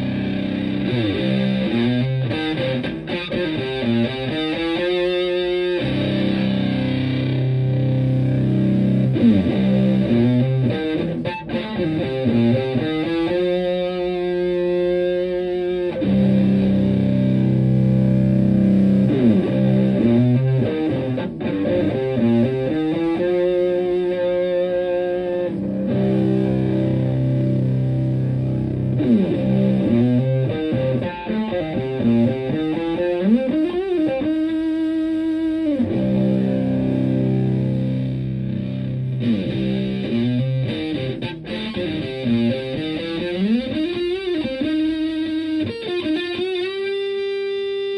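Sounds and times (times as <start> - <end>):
fuzz electric guitar: 0.0 - 47.9.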